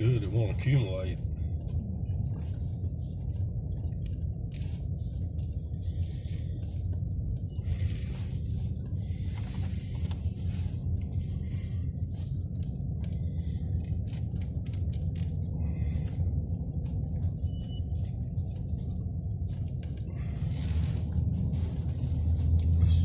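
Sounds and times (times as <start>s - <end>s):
car road rumble: 0.0s - 23.0s
tyres crackling on snow: 2.2s - 23.0s.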